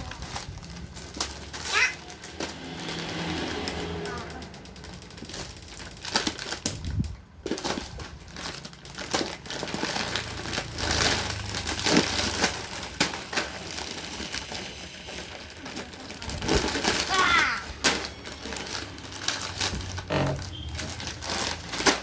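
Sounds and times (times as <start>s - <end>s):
packaging crinkling and rustling: 0.0s - 3.7s, 4.7s - 22.0s.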